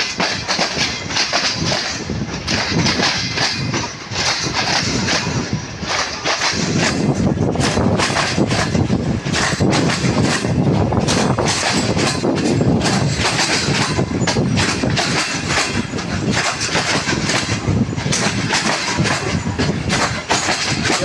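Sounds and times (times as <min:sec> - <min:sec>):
freight train wheels clattering: 0:00.0 - 0:21.0.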